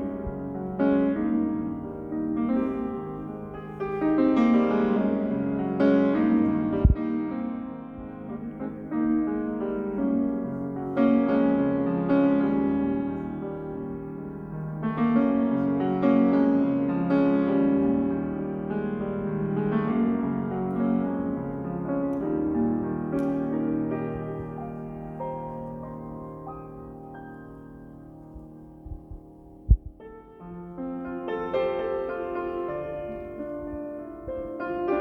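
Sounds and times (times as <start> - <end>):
slow gentle piano music: 0.0 - 35.0.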